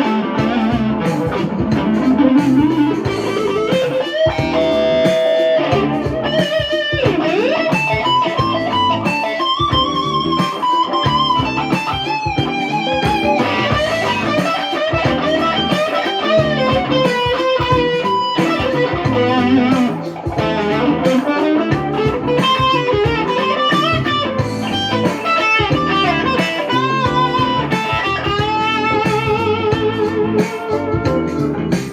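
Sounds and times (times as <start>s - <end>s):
electric guitar lead line: 0.0s - 31.9s.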